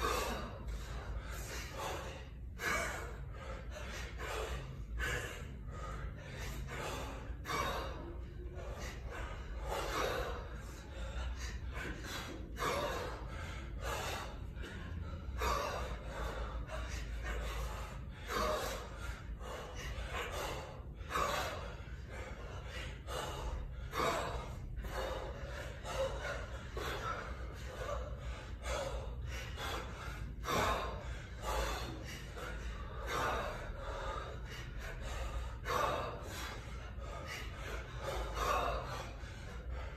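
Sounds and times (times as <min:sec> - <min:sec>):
person breathing hard: 0:00.0 - 0:39.9.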